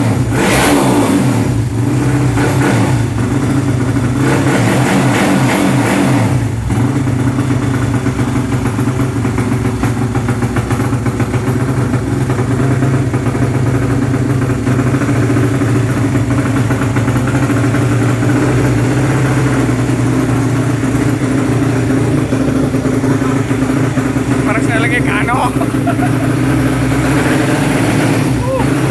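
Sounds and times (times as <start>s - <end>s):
motorcycle engine idling: 1.0s - 28.9s.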